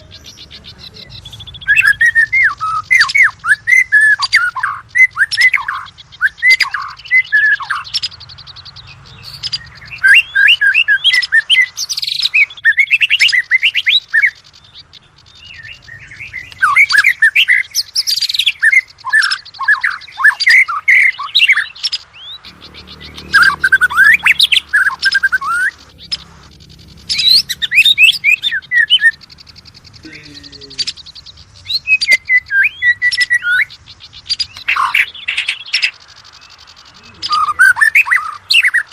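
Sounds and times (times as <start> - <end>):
songbird whistling song: 0.0 - 38.9.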